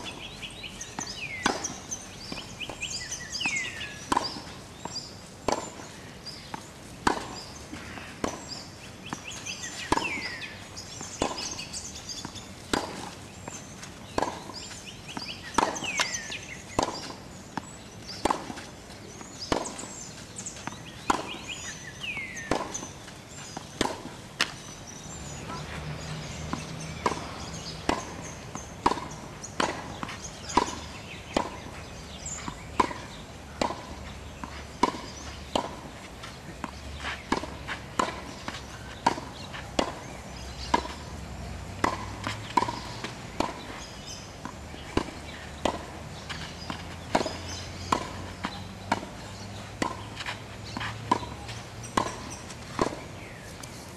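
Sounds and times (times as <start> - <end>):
birds singing: 0.0 - 53.9
tennis balls struck by rackets: 0.0 - 53.9.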